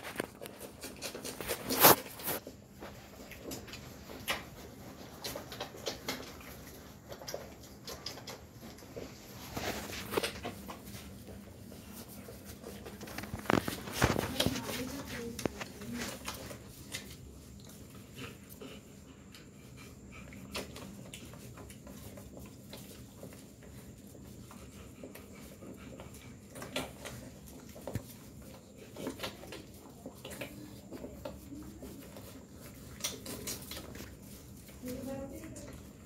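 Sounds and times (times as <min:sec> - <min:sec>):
puppies suckling: 0:00.0 - 0:36.0
puppy sounds: 0:00.0 - 0:36.0.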